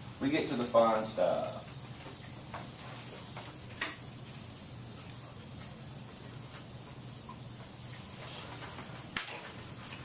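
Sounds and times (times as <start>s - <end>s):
rubbing and shuffling: 0.1s - 10.0s.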